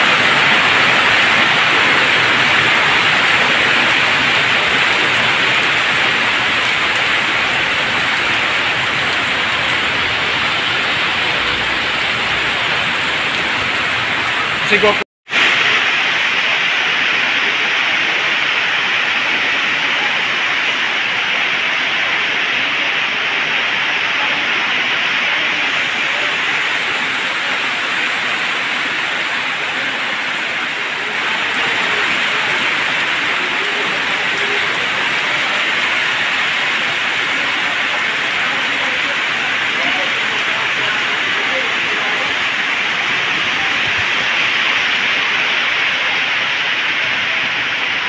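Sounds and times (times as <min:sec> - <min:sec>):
rain on wet ground: 0:00.0 - 0:48.0.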